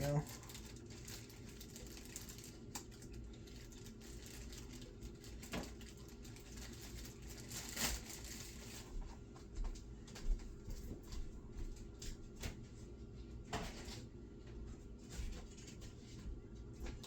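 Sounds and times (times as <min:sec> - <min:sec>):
kitchen items rustling: 0:00.0 - 0:17.0
low steady hum: 0:00.0 - 0:17.0.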